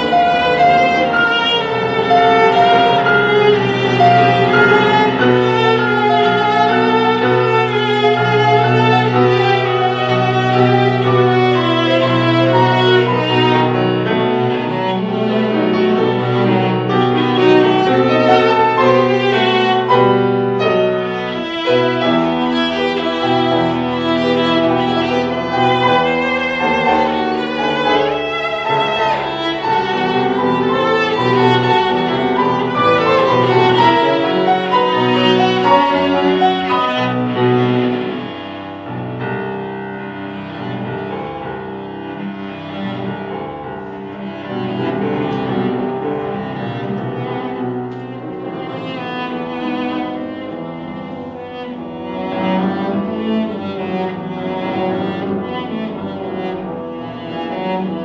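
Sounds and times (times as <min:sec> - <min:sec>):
bowed cello: 0:00.0 - 0:58.0
grand piano: 0:00.0 - 0:58.0.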